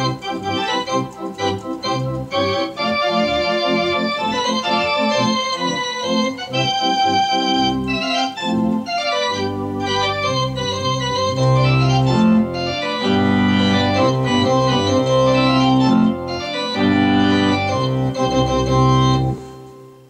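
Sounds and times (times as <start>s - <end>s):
organ playing a march: 0.0s - 20.0s.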